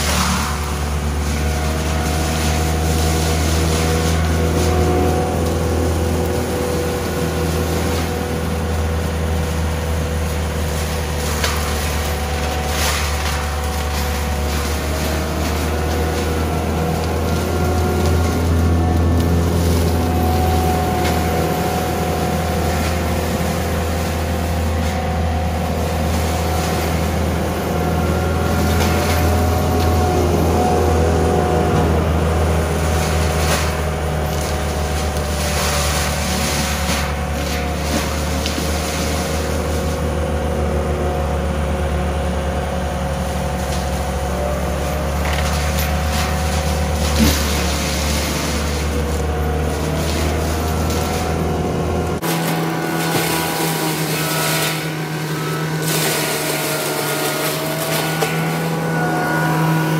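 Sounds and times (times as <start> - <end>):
brush shredding crackles: 0.0 - 59.9
diesel engine under load: 0.0 - 59.9
mulcher whine: 0.0 - 59.9.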